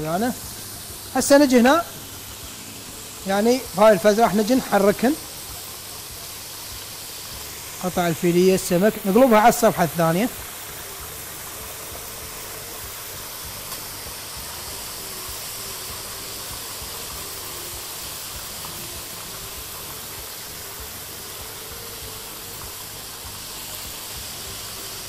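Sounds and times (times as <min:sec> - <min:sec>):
fish frying in hot oil: 0:00.0 - 0:25.0.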